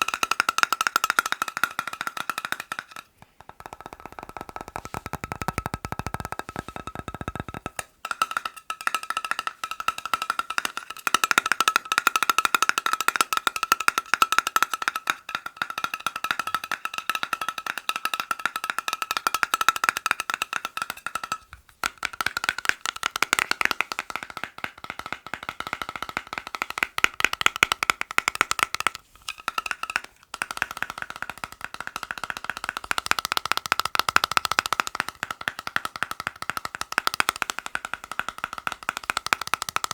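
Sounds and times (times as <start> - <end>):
fast tapping on hard objects: 0.0 - 39.9.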